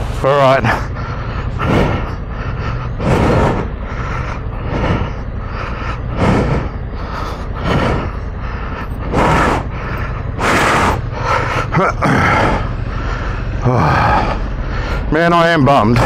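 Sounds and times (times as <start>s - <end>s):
loud rushes of noise: 0.0s - 16.0s
motorcycle engine running: 0.0s - 16.0s.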